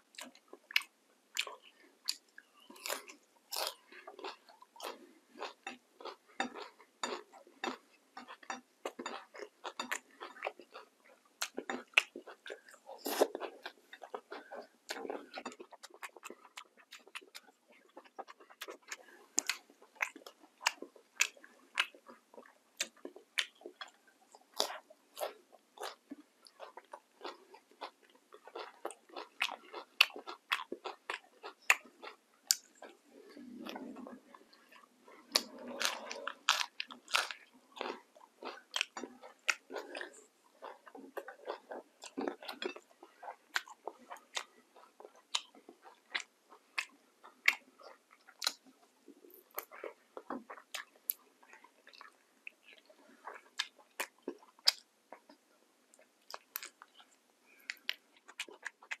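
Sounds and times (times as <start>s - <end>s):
wet chewing and lip smacking: 0.0s - 59.0s.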